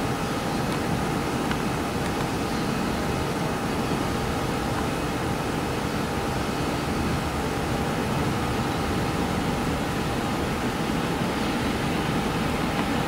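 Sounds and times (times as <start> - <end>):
jet engines on landing approach: 0.0 - 13.0.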